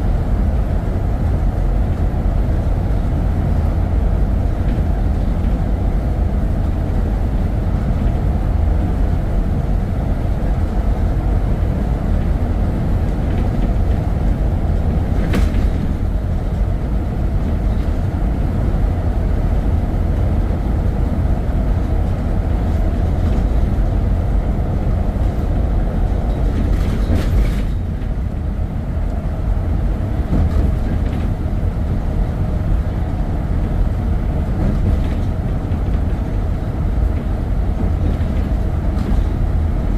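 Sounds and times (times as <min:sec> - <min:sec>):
vehicle rumbling: 0:00.0 - 0:39.9.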